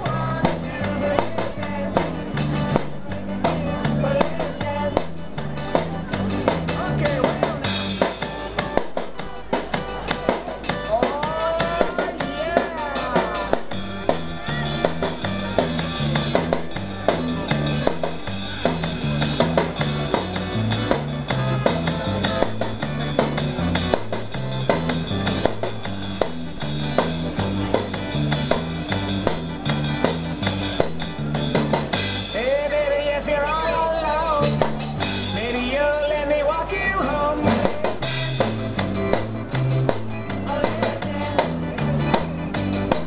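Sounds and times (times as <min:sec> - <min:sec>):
drums and cymbals: 0:00.0 - 0:32.6, 0:34.4 - 0:35.6, 0:37.4 - 0:43.0
upbeat music with bass and guitar: 0:00.0 - 0:43.0.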